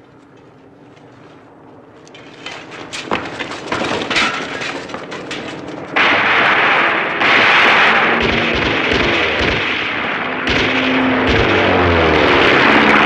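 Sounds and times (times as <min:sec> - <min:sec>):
biplane engine flying low: 0:00.0 - 0:13.0
sharp cracks: 0:02.1 - 0:13.0.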